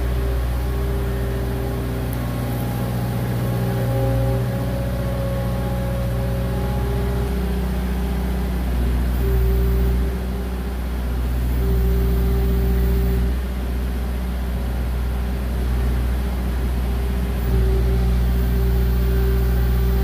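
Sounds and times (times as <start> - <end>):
diesel engine under load: 0.0 - 20.0
hydraulic whine: 0.0 - 20.0.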